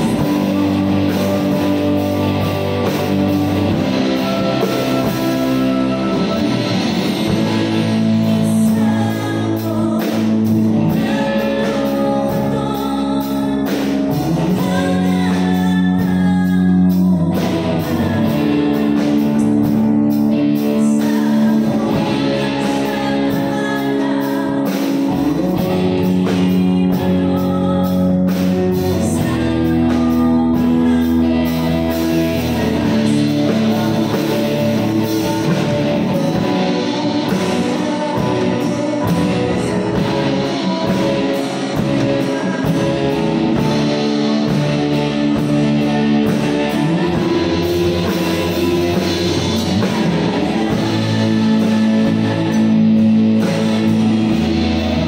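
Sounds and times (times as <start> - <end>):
bass guitar: 0.0 - 55.0
drum kit: 0.0 - 55.0
electric guitar: 0.0 - 55.0
keyboard: 0.0 - 55.0
person singing: 0.0 - 55.0.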